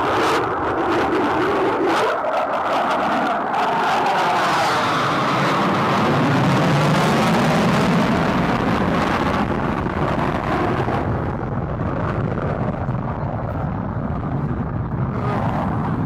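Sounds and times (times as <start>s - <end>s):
jet flying past: 0.0s - 16.0s.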